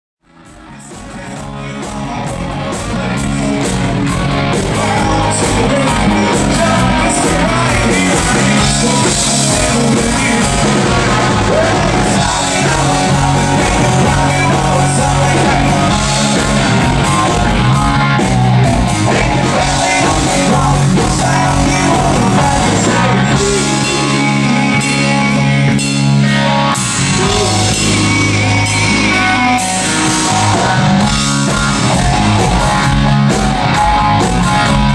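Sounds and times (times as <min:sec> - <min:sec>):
electric guitars: 0:00.2 - 0:34.9
drum kit: 0:00.3 - 0:34.9
lead vocalist singing: 0:00.4 - 0:34.9.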